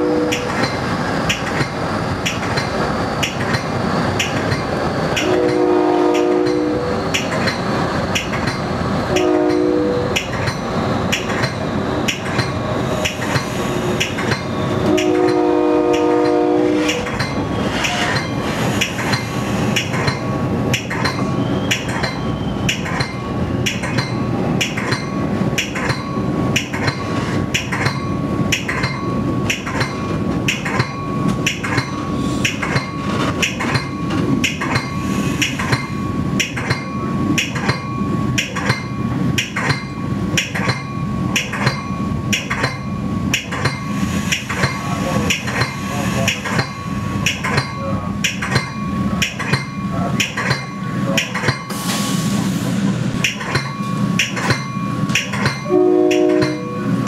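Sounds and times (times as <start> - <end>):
train warning bell ringing: 0.0 - 0.9, 4.5 - 13.2, 14.0 - 51.8, 53.2 - 57.0
low rumble of moving train: 0.0 - 57.0.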